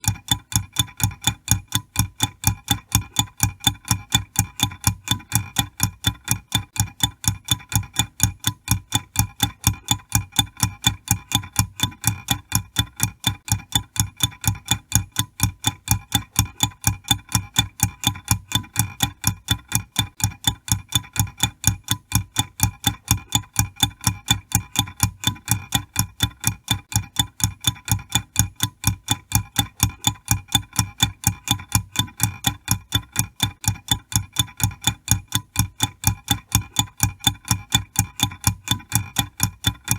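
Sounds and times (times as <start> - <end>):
kitchen timer ticking: 0.0 - 39.9.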